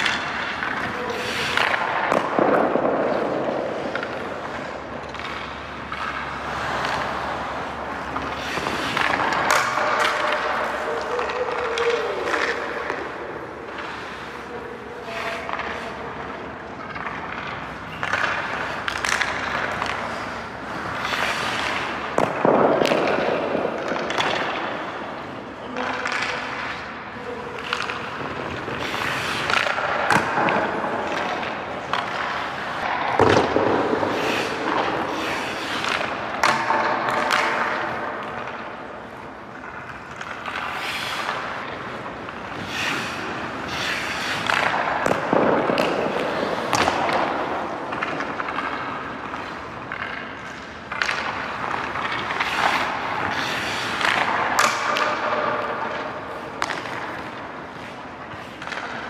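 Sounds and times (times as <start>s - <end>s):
hockey sticks hitting pucks: 0.0s - 59.0s
pucks striking pads and boards: 0.0s - 59.0s
skate blades scraping ice: 0.0s - 59.0s.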